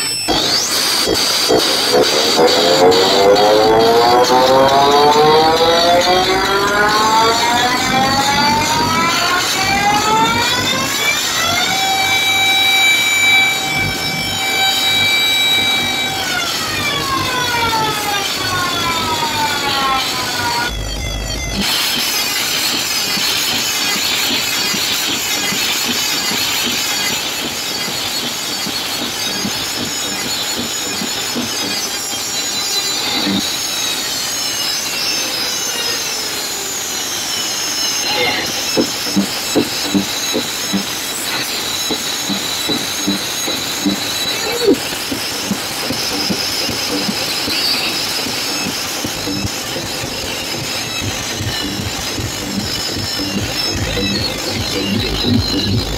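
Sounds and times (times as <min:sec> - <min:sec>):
dense noisy electronic wash: 0:00.0 - 0:55.9
pitched electronic sweep: 0:00.0 - 0:55.9.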